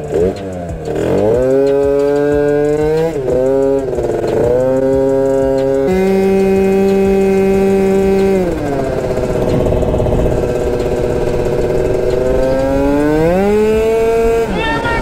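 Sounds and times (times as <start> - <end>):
two-stroke scooter engine running: 0.0 - 15.0.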